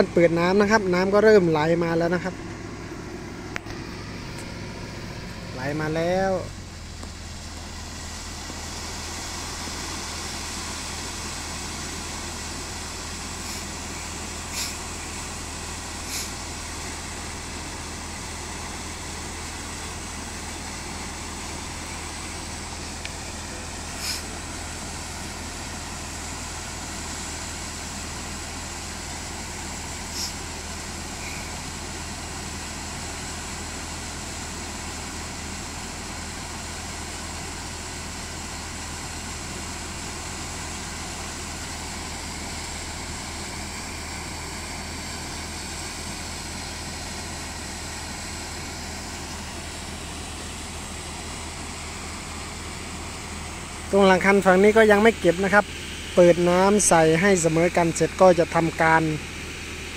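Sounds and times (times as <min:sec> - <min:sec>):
diesel excavator engine idling: 0:00.0 - 0:59.9.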